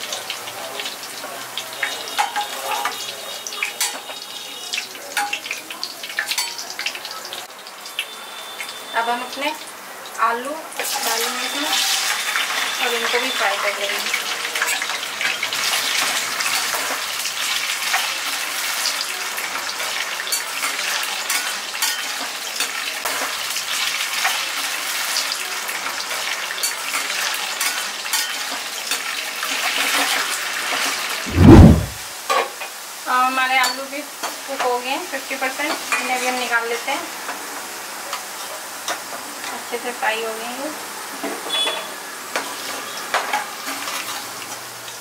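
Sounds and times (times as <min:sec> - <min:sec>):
potato wedges sizzling in oil: 0:00.0 - 0:31.3, 0:32.0 - 0:45.0.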